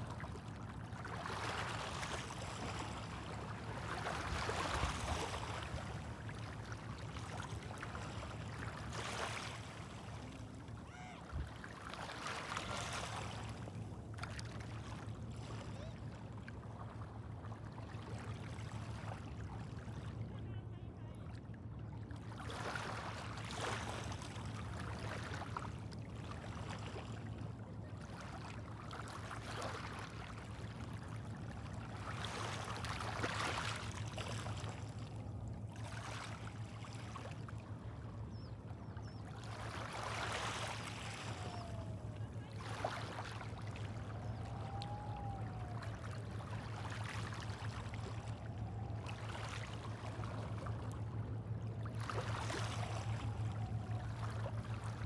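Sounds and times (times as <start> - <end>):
small waves washing ashore: 0.0 - 55.0.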